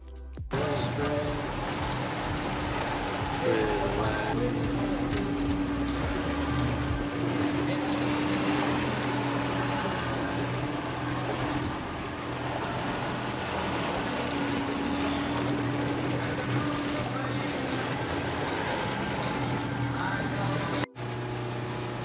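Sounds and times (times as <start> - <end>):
motorboat engine humming: 0.0 - 22.0
broad rushing noise: 0.5 - 21.3.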